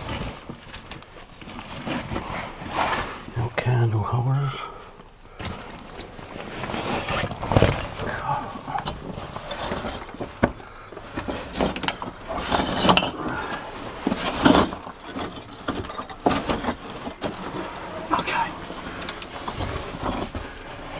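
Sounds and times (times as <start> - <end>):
scuffing and rustling over rubble: 0.0 - 20.9.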